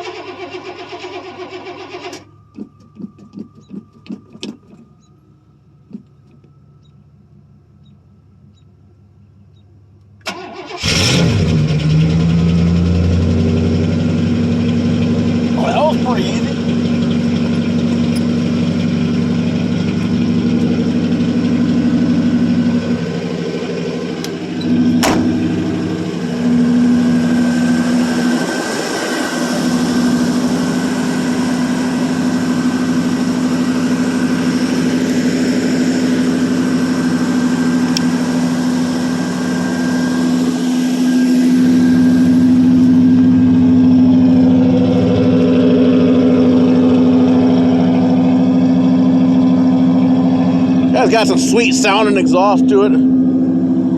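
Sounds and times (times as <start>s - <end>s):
engine fast idling: 10.3s - 53.9s.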